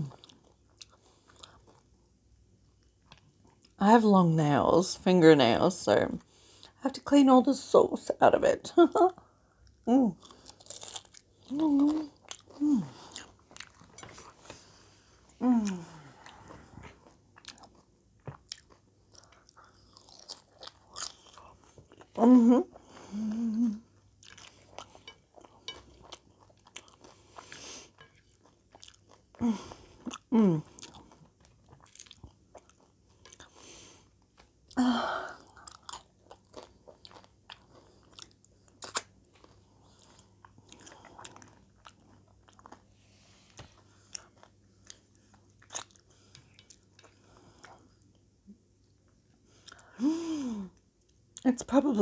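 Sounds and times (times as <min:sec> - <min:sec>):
chewing and crunching chips: 0:00.0 - 0:03.8, 0:09.2 - 0:50.0.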